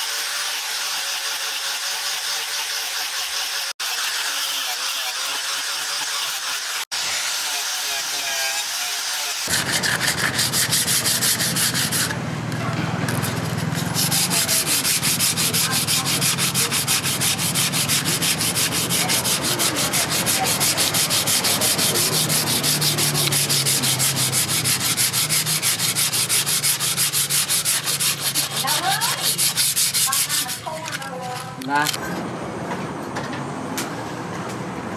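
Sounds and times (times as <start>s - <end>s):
sandpaper rasping on wood: 0.0s - 12.2s, 13.1s - 31.1s.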